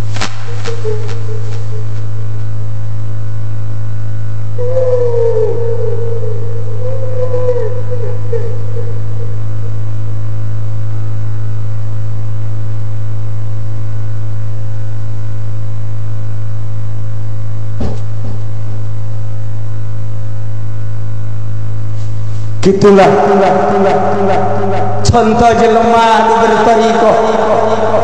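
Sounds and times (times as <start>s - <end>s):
loud electrical hum: 0.0s - 28.0s.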